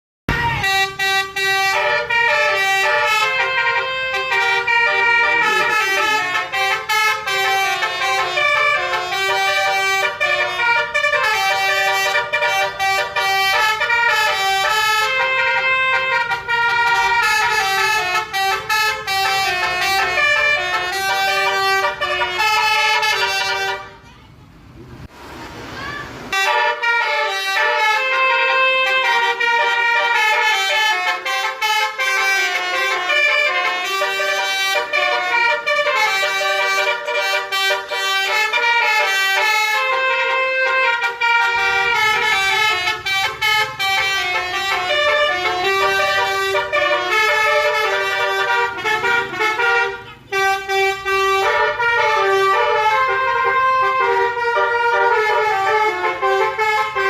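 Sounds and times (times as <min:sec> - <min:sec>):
musical air horn melody: 0:00.3 - 0:24.1, 0:26.3 - 0:57.0.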